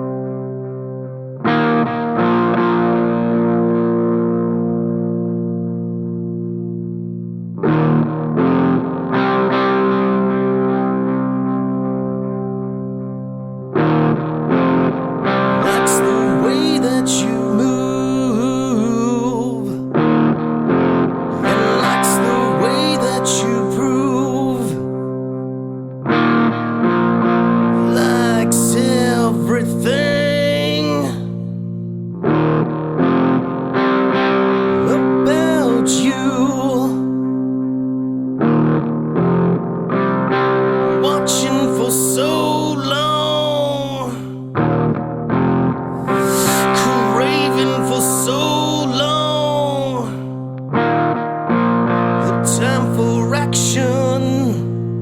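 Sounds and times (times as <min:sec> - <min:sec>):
distorted electric guitar chords: 0:00.0 - 0:55.0.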